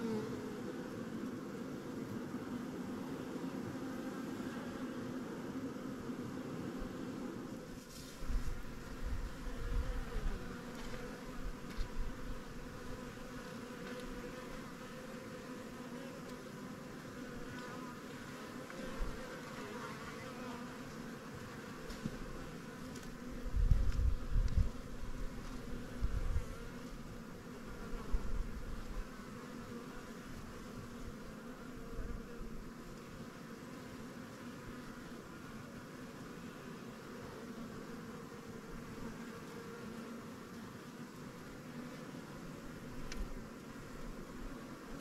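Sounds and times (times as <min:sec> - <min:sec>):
bees humming in hive: 0:00.0 - 0:45.0.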